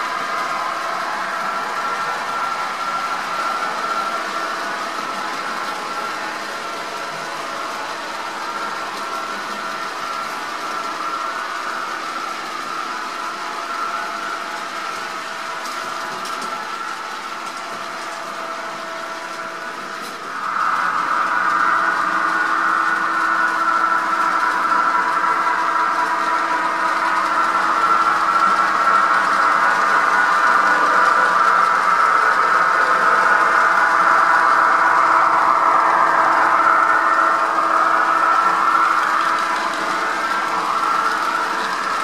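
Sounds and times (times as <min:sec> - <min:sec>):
electric locomotive hum: 0:00.0 - 0:42.0.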